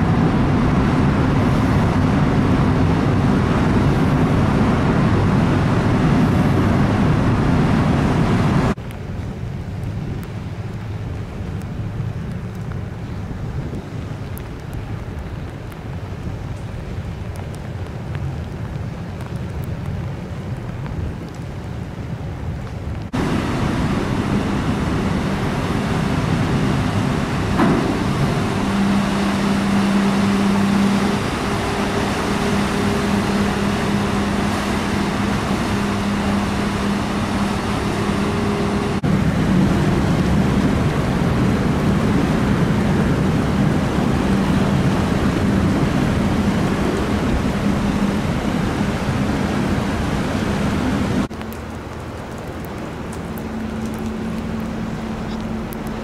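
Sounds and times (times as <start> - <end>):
ship engines humming: 0.0 - 19.2, 21.6 - 56.0
churning water: 0.0 - 56.0.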